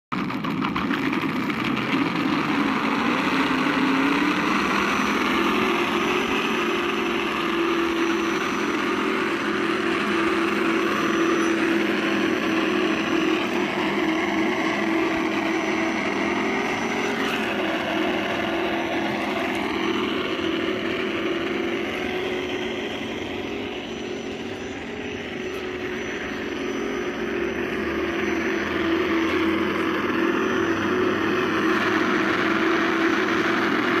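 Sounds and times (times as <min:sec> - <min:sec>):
electric drivetrain whine: 0:00.1 - 0:34.0
simulated engine drone: 0:00.1 - 0:34.0.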